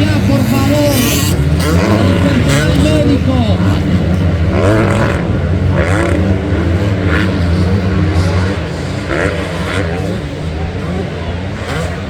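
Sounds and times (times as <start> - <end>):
motocross bike engines droning: 0.0 - 12.0.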